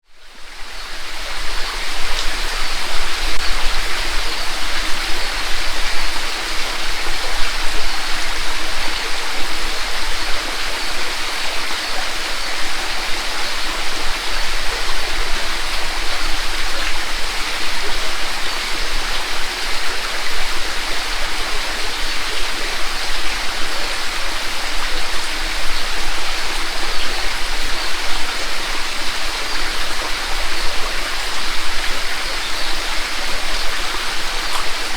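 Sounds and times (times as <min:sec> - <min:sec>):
creek water rushing over rocks: 0:00.1 - 0:34.9.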